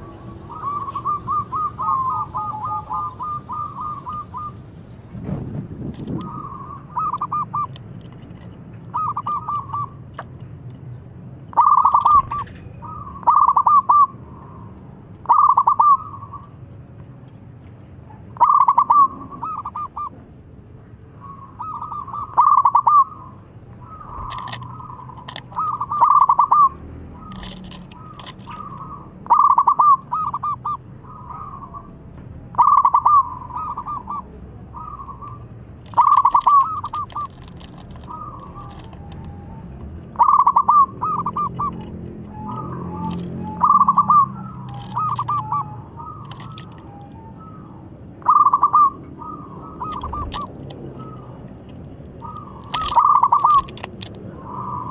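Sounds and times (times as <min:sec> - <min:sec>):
dove cooing: 0:00.0 - 0:04.7, 0:06.0 - 0:07.8, 0:08.9 - 0:10.0, 0:11.5 - 0:14.6, 0:15.2 - 0:16.5, 0:18.4 - 0:20.2, 0:21.2 - 0:54.9.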